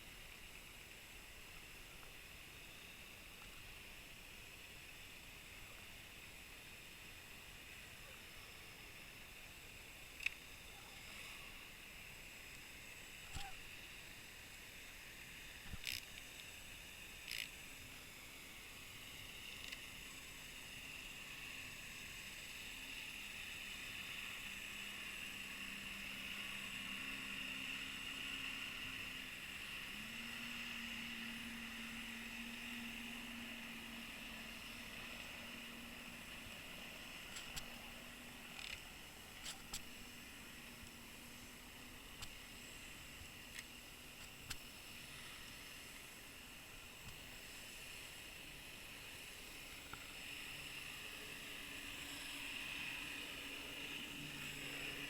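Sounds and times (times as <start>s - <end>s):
faint low hum of boat motor: 0.0s - 55.0s.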